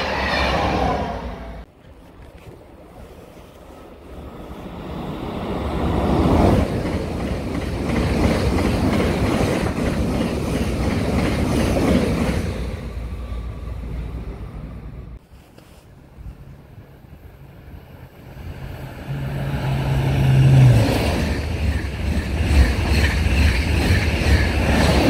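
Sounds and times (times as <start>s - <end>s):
electric train passing: 0.0s - 1.7s, 4.1s - 15.2s, 16.6s - 25.0s.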